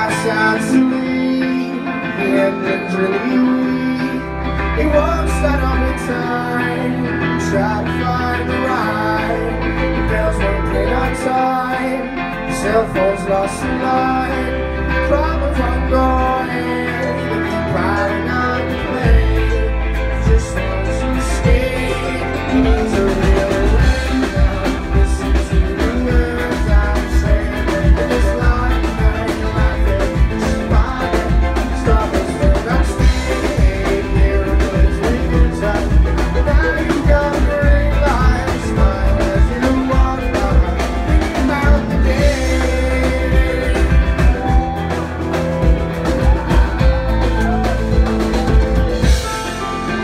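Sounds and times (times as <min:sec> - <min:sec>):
drum kit playing: 0:00.0 - 0:50.0
electric bass: 0:00.0 - 0:50.0
electric guitar: 0:00.0 - 0:50.0.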